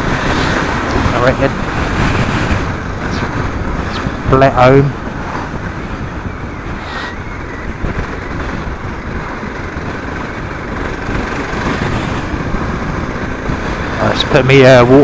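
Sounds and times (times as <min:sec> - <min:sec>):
motorcycle engine running: 0:00.0 - 0:15.0
wind rush over microphone: 0:00.0 - 0:15.0.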